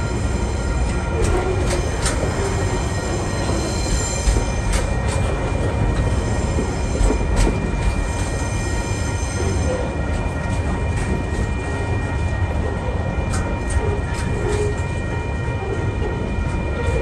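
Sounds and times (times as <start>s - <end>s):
freight train rumbling past: 0.0s - 17.0s
high-pitched ringing tones: 0.0s - 17.0s.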